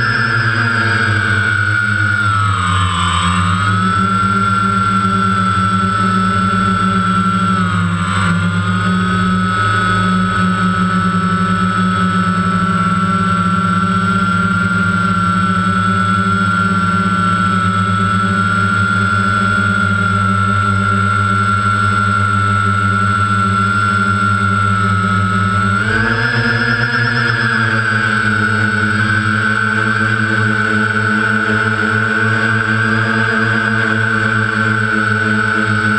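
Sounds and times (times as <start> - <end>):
remote-controlled helicopter whining: 0.0 - 35.9.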